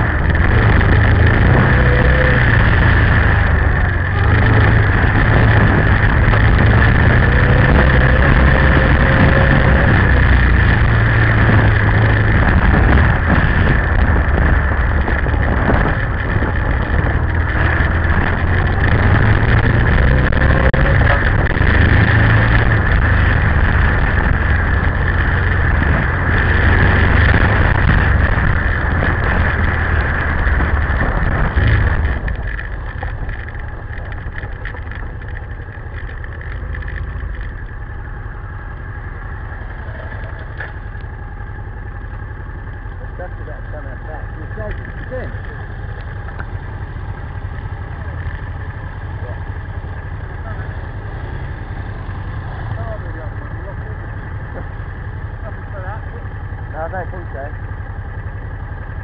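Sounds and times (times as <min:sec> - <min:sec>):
motorcycle engine running: 0:00.0 - 0:59.0
tyres on gravel: 0:00.0 - 0:59.0
wind: 0:00.0 - 0:59.0.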